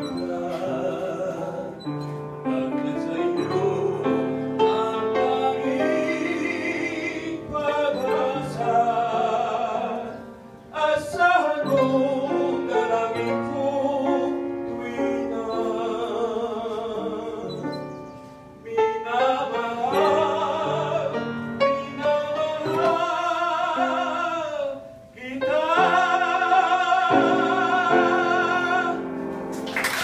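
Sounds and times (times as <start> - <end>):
person singing with vibrato: 0.0 - 29.4
upright piano: 0.0 - 30.0.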